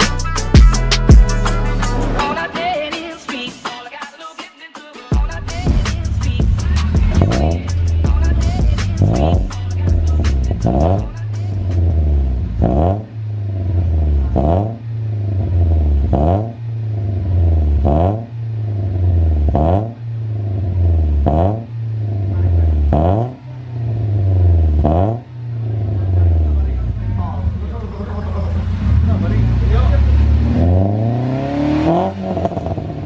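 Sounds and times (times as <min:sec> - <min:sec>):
car engine revving: 0:00.0 - 0:02.5, 0:05.2 - 0:33.0.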